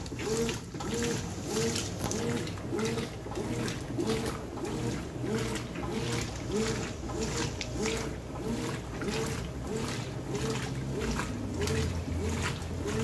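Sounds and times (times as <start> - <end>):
washing machine drive whining: 0.0 - 13.0
water sloshing and splashing: 0.0 - 13.0.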